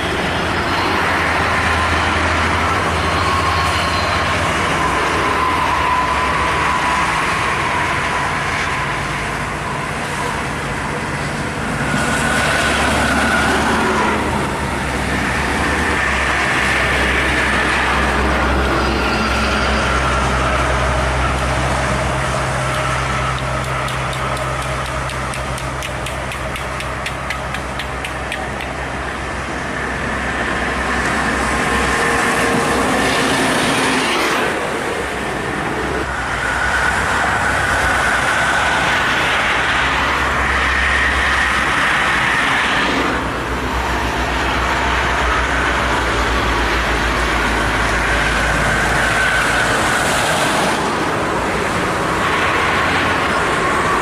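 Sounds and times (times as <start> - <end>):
diesel engines humming: 0.0 - 54.0
road and tyre noise: 0.0 - 54.0.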